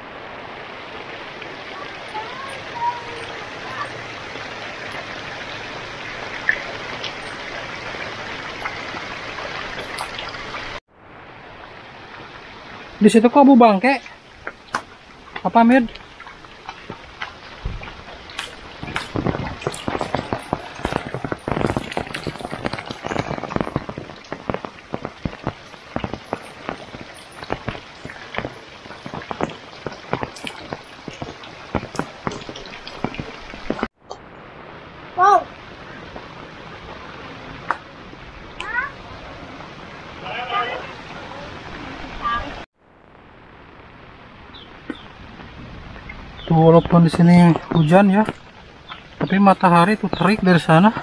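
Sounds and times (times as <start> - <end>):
heavy rain falling: 0.0 - 51.0
raindrops ticking near microphone: 0.0 - 51.0.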